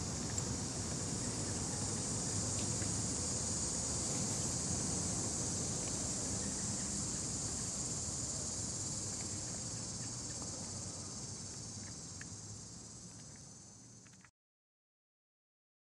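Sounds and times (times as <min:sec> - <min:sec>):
high-pitched insect chorus: 0:00.0 - 0:14.3.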